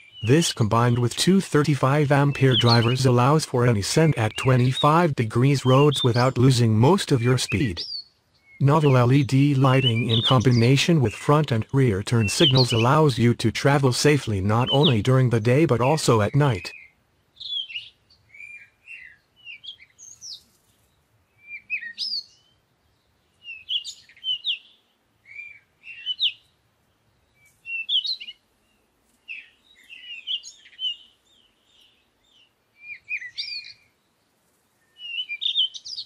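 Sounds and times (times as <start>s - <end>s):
songbird chirping: 0.0s - 36.0s.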